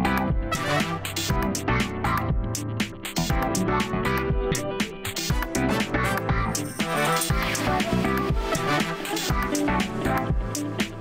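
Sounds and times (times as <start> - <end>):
upbeat electronic music: 0.0 - 11.0
steady drum beat: 0.3 - 11.0.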